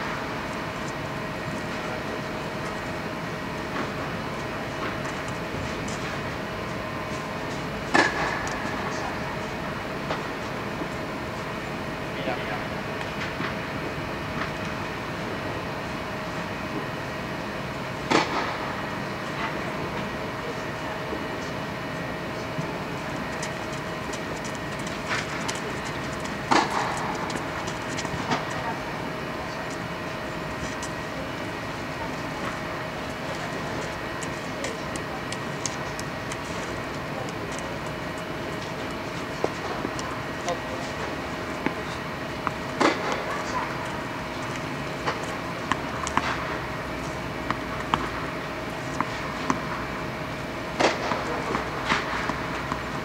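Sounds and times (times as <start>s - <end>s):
steady background hum: 0.0s - 53.0s.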